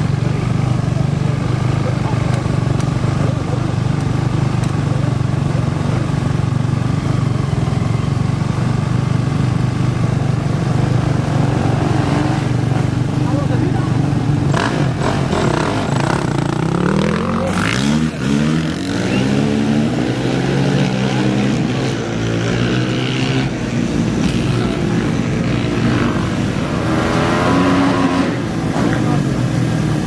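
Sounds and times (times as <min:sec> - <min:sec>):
race vehicle engine revving: 0:00.0 - 0:30.0.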